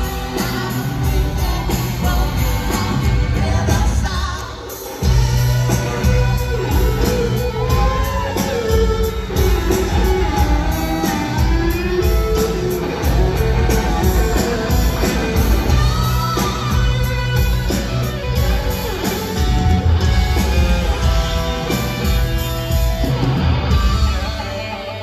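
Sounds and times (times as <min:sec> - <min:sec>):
electric guitar lead: 0:00.0 - 0:25.0
live rock band: 0:00.0 - 0:25.0.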